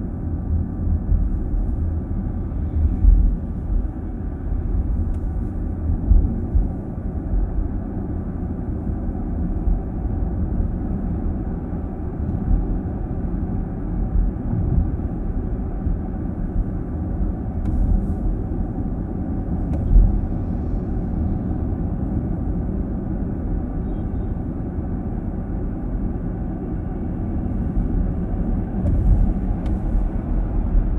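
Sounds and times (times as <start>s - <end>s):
road and tyre rumble: 0.0s - 30.9s.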